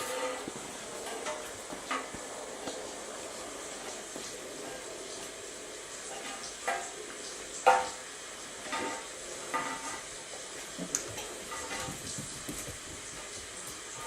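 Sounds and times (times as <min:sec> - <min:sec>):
rain-like hiss: 0:00.0 - 0:14.0.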